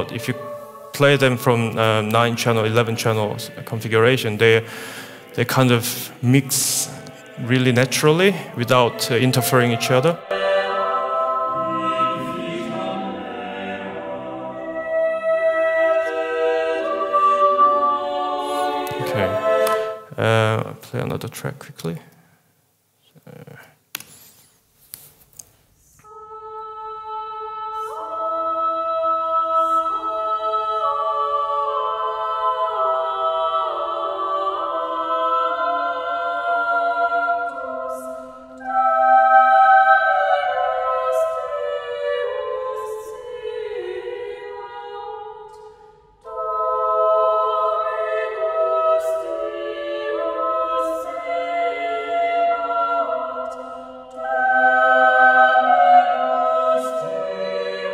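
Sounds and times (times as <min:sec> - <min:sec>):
a cappella choir singing: 0:00.0 - 0:21.1, 0:25.8 - 0:57.9.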